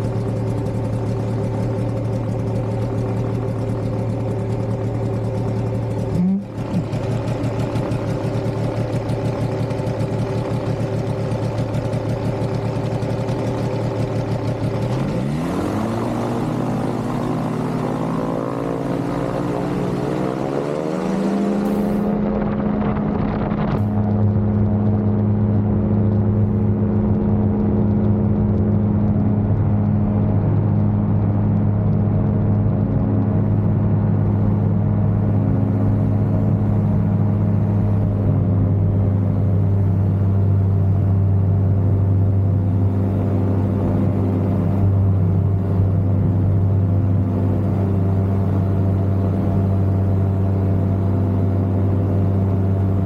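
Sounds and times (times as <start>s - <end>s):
ultralight aircraft engine: 0.0s - 53.0s.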